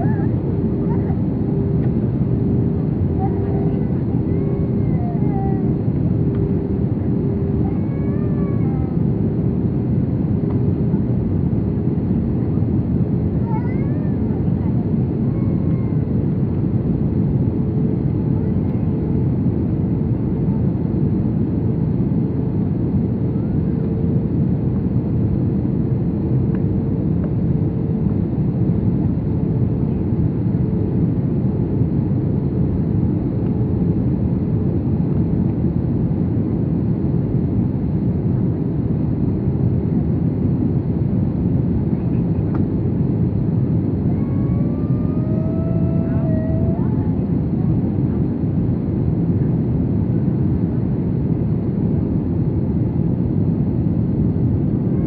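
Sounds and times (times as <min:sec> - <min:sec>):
aircraft engine and airflow roar: 0:00.0 - 0:55.0
faint steady hum: 0:00.0 - 0:55.0.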